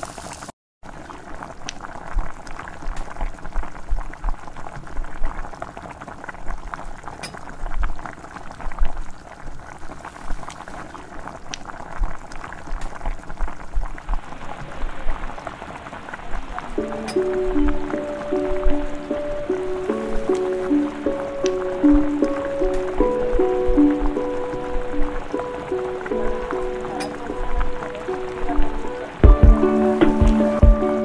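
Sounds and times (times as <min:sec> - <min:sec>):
stew bubbling in a pan: 0:00.0 - 0:30.5.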